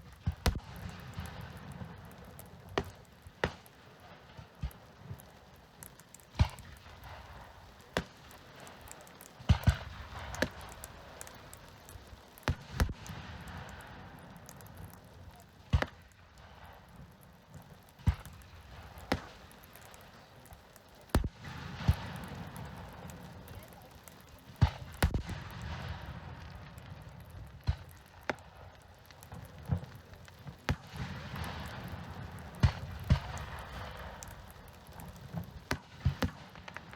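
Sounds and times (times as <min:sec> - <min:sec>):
firework bangs: 0:00.0 - 0:36.9
fireworks crackling: 0:00.0 - 0:36.9.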